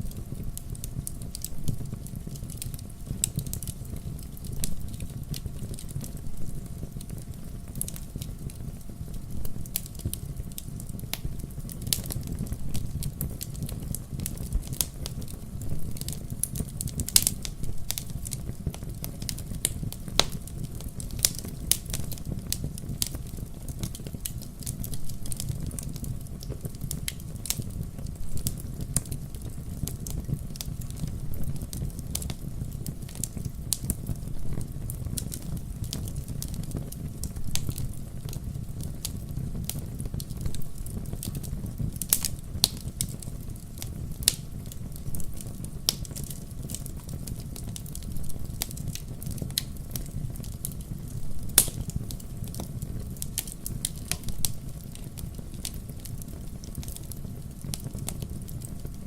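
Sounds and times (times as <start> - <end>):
fire crackling and snapping: 0.0 - 59.0
fire pops: 0.0 - 59.0
fireplace flames rumbling: 0.0 - 59.0.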